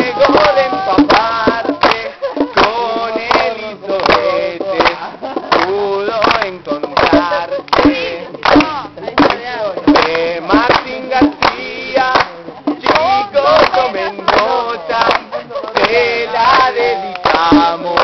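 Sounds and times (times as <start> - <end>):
sharp percussive clicks: 0.0 - 18.0
singing voices: 0.0 - 18.0.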